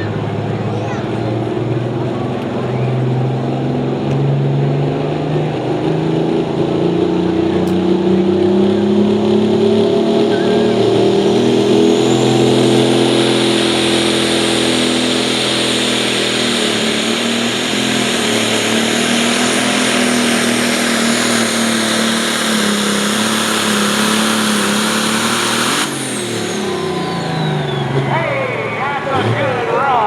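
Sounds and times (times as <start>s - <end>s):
diesel tractor engine revving: 0.0s - 30.0s.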